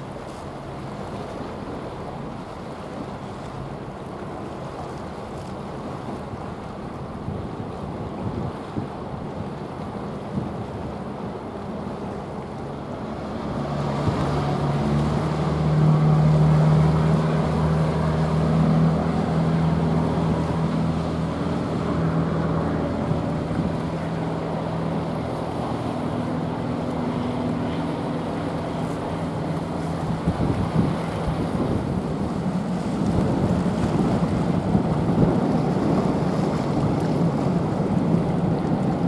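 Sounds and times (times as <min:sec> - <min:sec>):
ship diesel engine drone: 0:00.0 - 0:39.0
wind and water hiss: 0:00.0 - 0:39.0.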